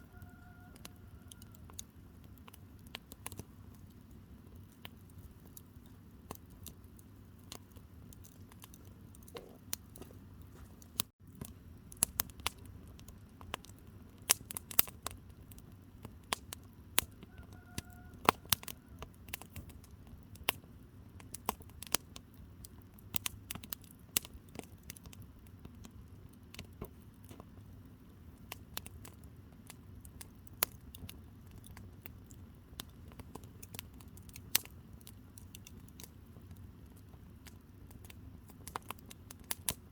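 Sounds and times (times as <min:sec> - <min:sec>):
low rumble of flames: 0:00.0 - 0:39.9
campfire pops and crackles: 0:00.1 - 0:39.9.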